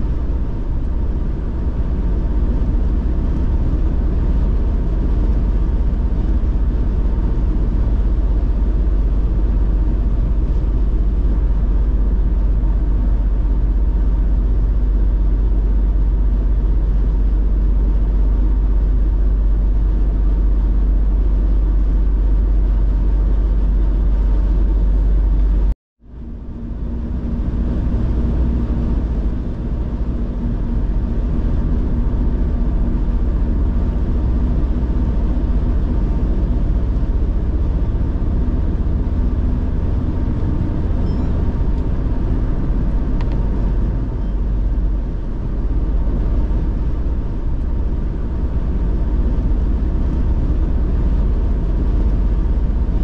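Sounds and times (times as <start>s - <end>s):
road and wind rumble: 0.0s - 53.0s.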